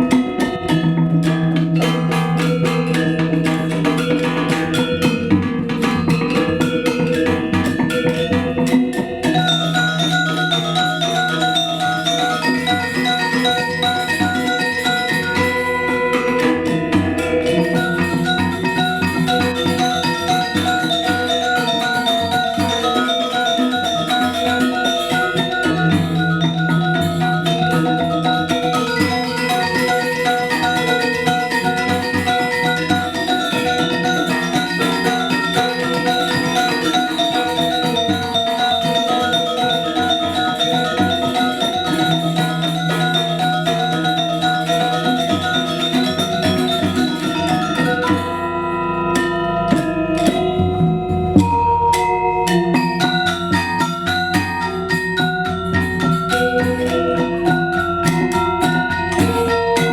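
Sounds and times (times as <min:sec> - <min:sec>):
gamelan music: 0:00.0 - 0:59.9.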